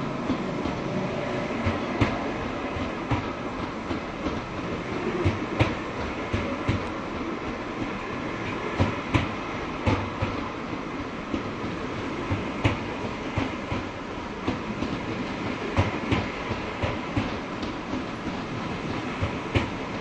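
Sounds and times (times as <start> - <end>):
train rumble: 0.0 - 20.0
train wheels clicking over rail joints: 0.0 - 20.0.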